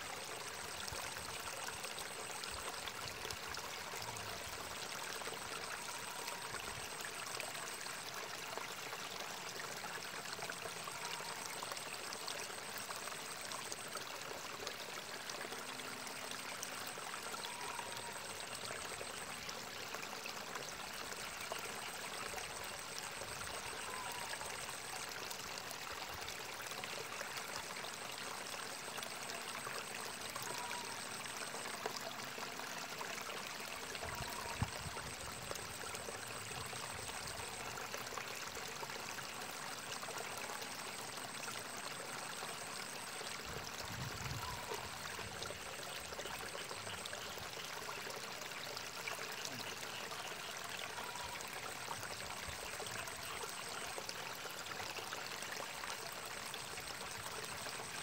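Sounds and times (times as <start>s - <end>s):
water trickling in a ditch: 0.0s - 58.0s.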